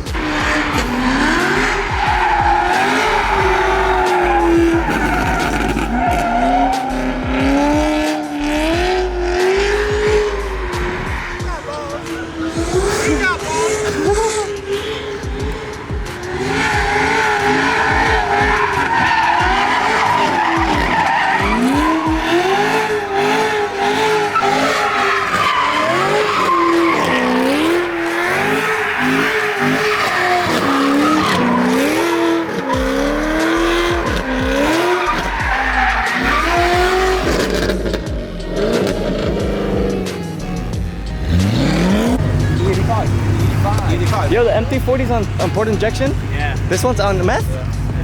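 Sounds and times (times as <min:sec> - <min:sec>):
car engine revving: 0:00.0 - 0:48.0
tires squealing: 0:00.0 - 0:48.0.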